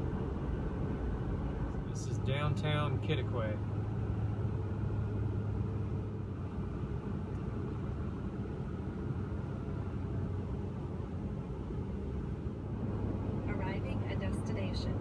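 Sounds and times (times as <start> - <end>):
pickup truck engine and road noise: 0.0 - 15.0.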